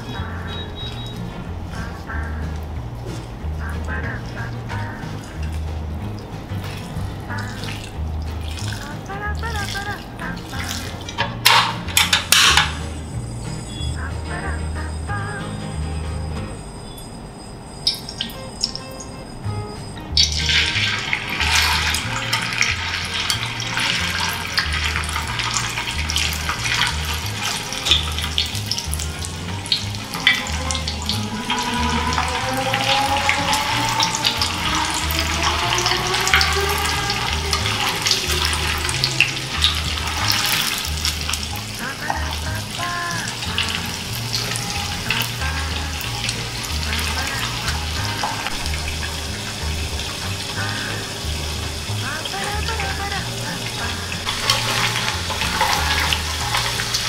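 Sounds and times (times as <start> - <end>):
chicken deep-frying in oil: 0.0 - 14.3, 17.8 - 57.0
background music beat: 0.0 - 16.8, 17.9 - 57.0.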